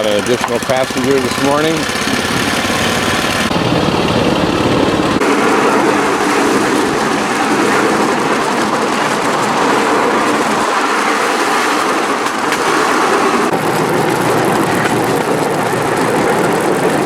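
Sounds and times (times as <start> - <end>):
platform rattling along track: 0.0 - 17.0
small engine running: 0.0 - 17.0.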